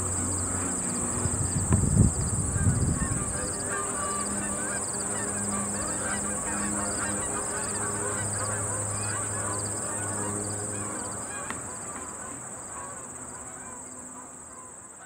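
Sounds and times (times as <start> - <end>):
geese honking: 0.0 - 15.0
insect trill with chirps: 0.0 - 15.0.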